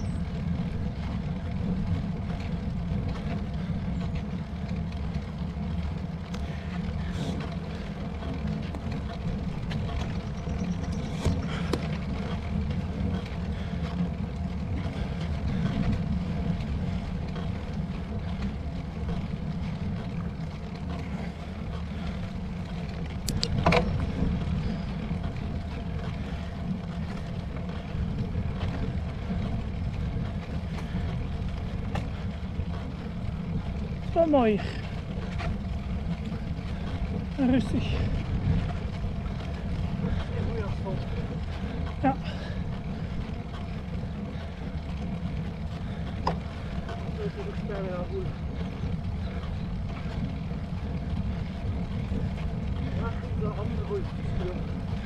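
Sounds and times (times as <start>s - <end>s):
bike tyres rolling on asphalt: 0.0s - 55.0s.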